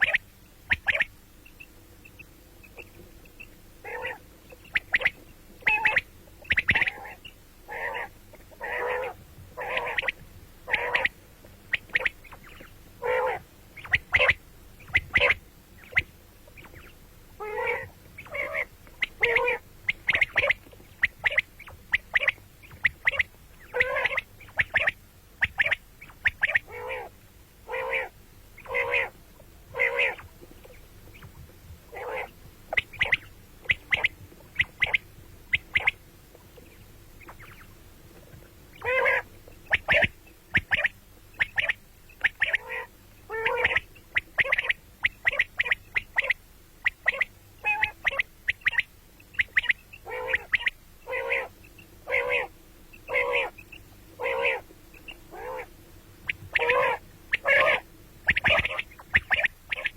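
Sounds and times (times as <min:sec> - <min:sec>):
quails calling: 0:00.0 - 0:59.9.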